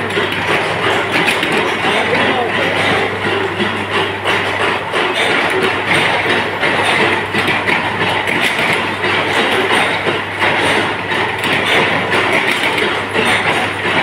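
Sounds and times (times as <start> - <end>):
rushing machine noise: 0.0 - 14.0.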